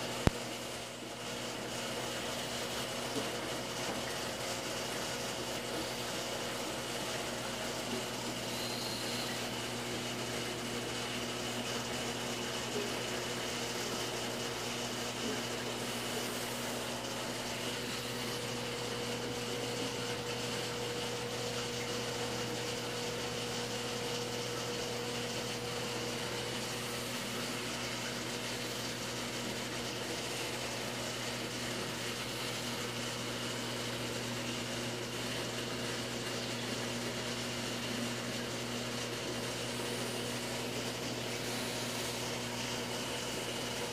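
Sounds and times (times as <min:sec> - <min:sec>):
aquarium pumps humming: 0:00.0 - 0:43.9.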